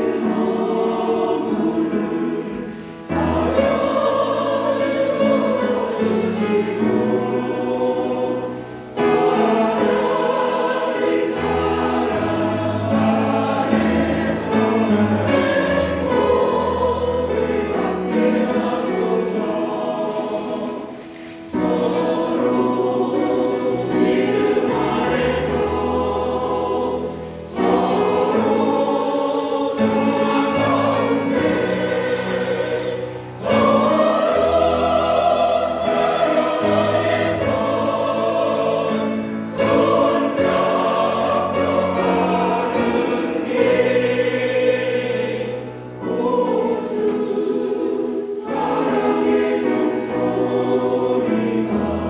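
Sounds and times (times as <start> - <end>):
choir singing a hymn: 0.0 - 52.0.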